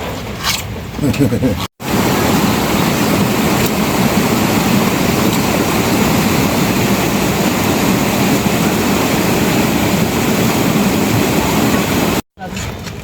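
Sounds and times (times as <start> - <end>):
heavy rain falling: 1.8 - 12.3.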